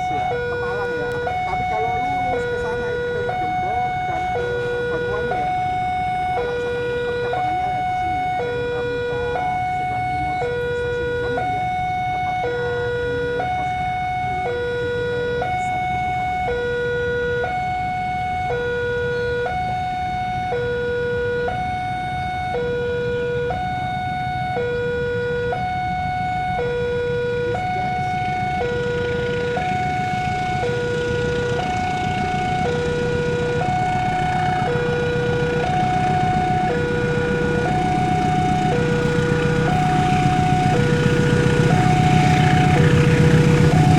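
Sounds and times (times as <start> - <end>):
train engine hum: 0.0 - 43.9
two-tone crossing alarm: 0.0 - 43.9.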